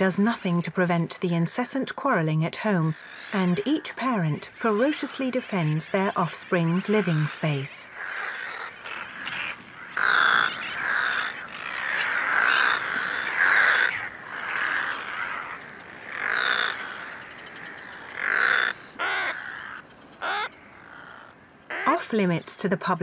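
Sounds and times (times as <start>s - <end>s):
seabird colony calling: 0.0s - 23.0s.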